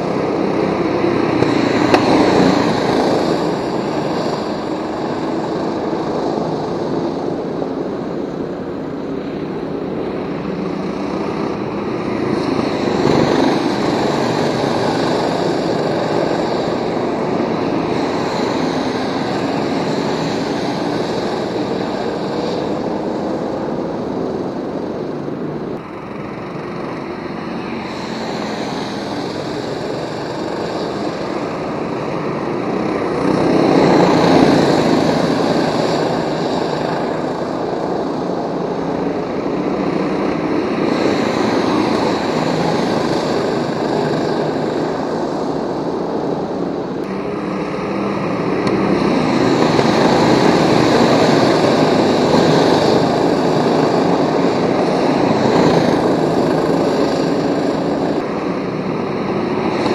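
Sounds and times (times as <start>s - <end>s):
go-kart engines racing: 0.0s - 59.9s.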